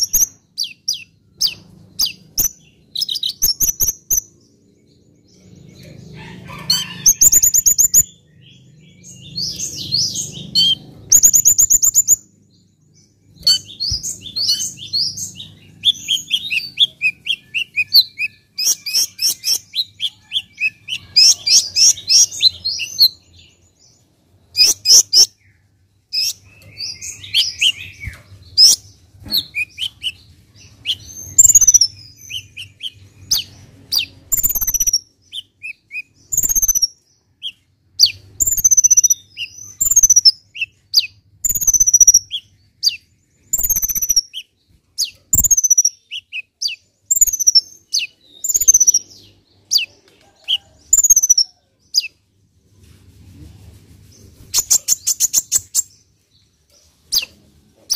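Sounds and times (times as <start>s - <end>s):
sunbird singing: 0.0s - 52.2s.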